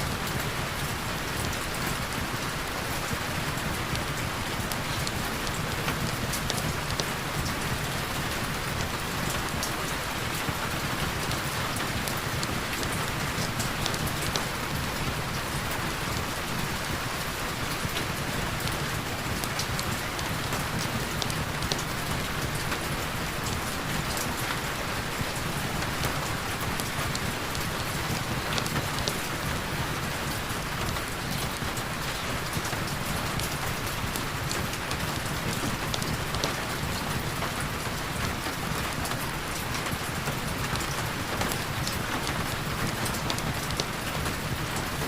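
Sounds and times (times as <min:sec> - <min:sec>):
heavy rain falling: 0:00.0 - 0:45.0
raindrops tapping: 0:00.2 - 0:45.0.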